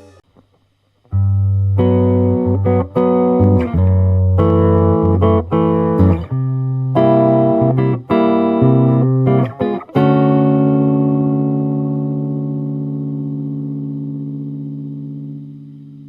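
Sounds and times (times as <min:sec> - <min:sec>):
electric guitar chords ringing: 0:01.1 - 0:16.0.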